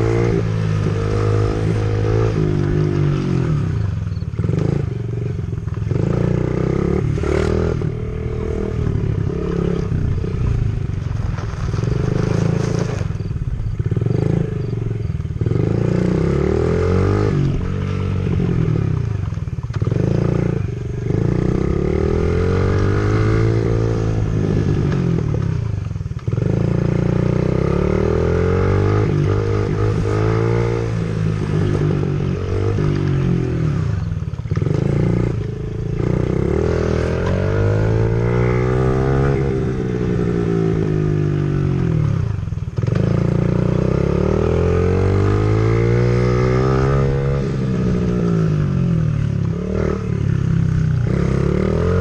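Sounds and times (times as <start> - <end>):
dirt bike engine revving: 0.0 - 5.0, 5.8 - 19.2, 19.8 - 25.6, 26.3 - 52.0.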